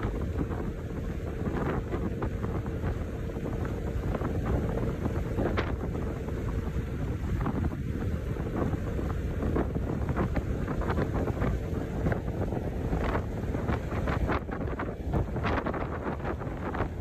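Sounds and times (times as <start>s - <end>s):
vehicle road rumble: 0.0s - 17.0s
wind buffeting microphone: 0.0s - 17.0s.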